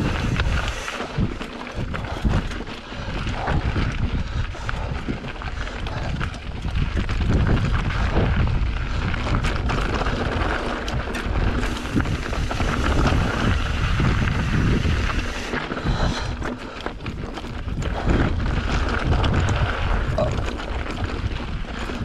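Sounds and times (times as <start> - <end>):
bike rattling: 0.0 - 22.0
tyres crunching over loose rock: 0.0 - 22.0
wind buffeting microphone: 0.0 - 22.0.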